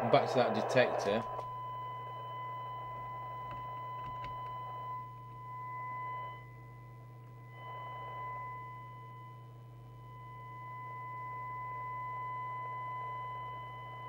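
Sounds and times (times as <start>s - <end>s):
steady low hum: 0.0s - 14.0s
steady test tone: 0.0s - 14.0s.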